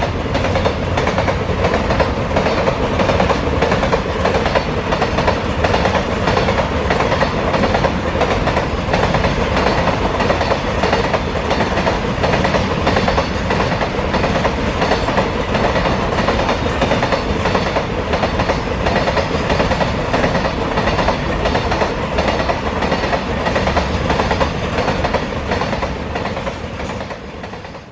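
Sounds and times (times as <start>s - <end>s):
wheels clacking over rail joints: 0.0s - 27.8s
freight train rumbling past: 0.0s - 27.9s.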